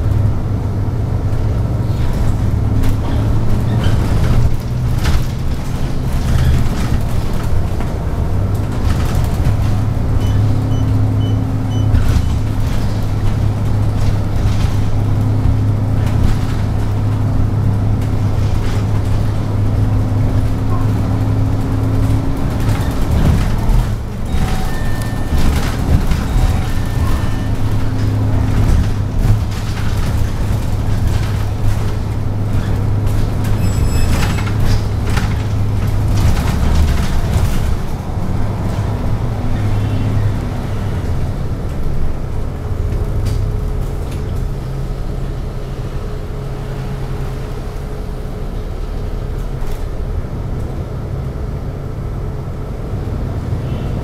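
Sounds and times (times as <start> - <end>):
bus engine droning: 0.0 - 54.0.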